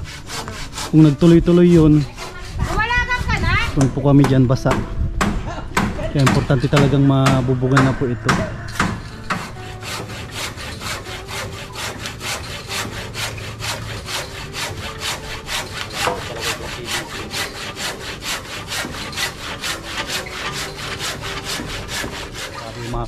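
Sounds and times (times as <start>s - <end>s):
hand saw cutting wood: 0.0s - 23.0s.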